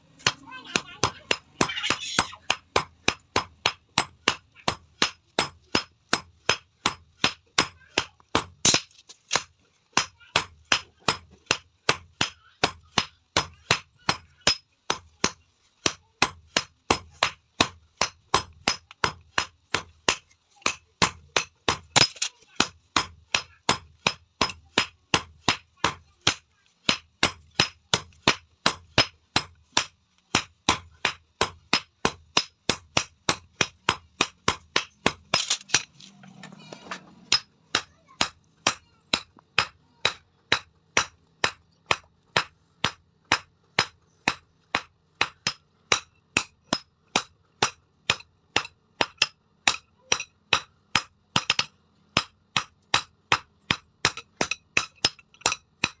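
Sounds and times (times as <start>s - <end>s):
hammer striking metal on anvil: 2.2s - 56.0s.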